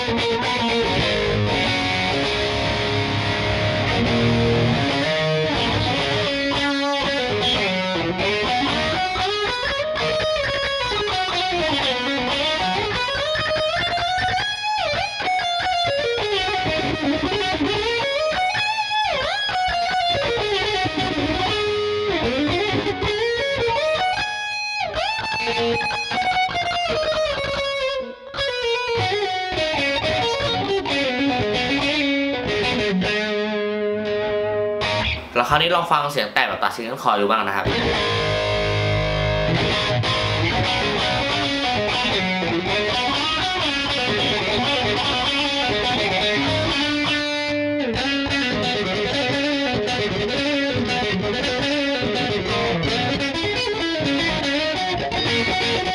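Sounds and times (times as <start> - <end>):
distorted electric guitar lead: 0.0 - 55.9.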